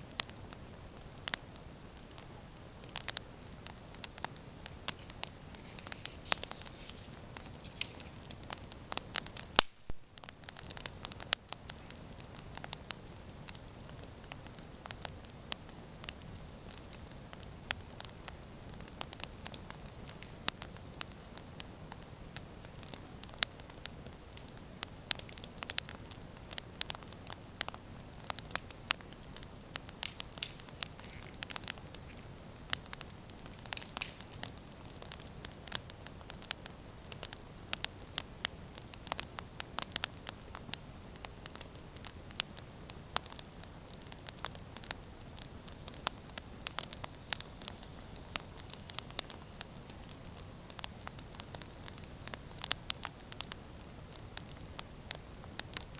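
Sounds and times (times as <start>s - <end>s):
campfire crackling and popping: 0.0s - 55.9s
low fire rumble: 0.0s - 55.9s.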